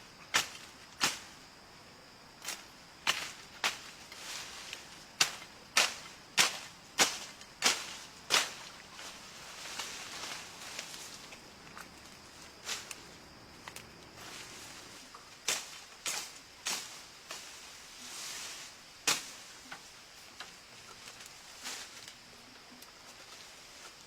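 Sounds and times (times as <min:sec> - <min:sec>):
soft hiss: 0:00.0 - 0:24.0.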